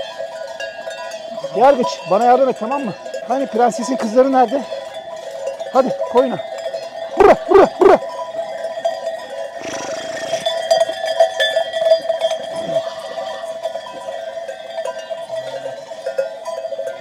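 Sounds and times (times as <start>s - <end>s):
sheep bells jangling: 0.0s - 17.0s.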